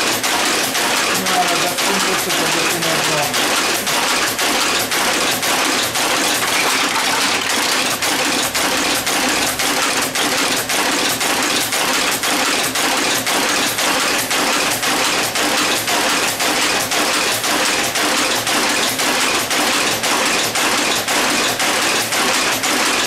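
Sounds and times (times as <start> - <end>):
type caster mechanism clacking: 0.0 - 23.0.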